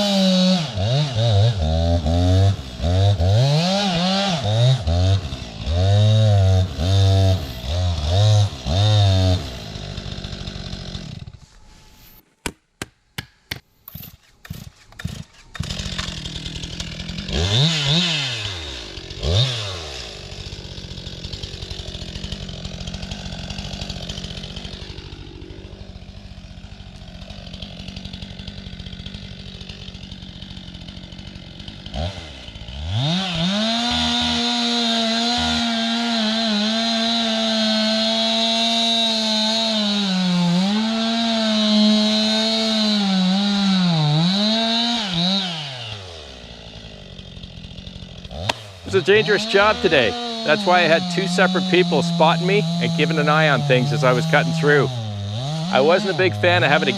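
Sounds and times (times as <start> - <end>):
chainsaw revving: 0.0 - 11.4, 14.0 - 56.9.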